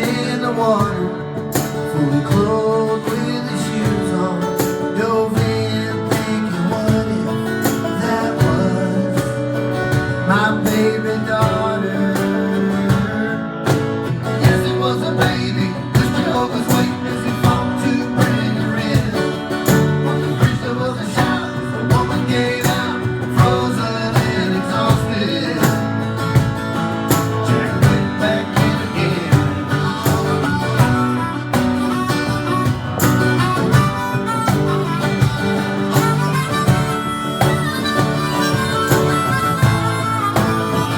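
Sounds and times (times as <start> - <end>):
country band playing live: 0.0 - 40.9.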